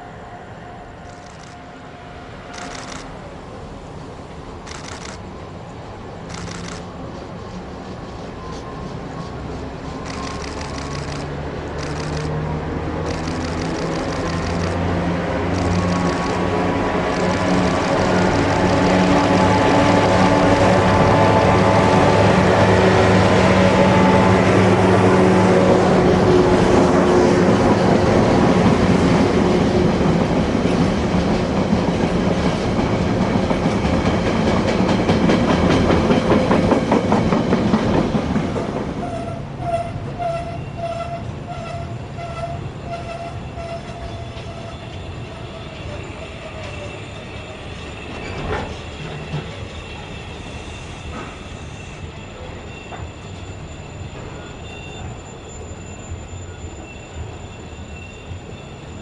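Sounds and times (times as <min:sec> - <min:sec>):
diesel locomotive engine accelerating: 0:00.0 - 0:59.0.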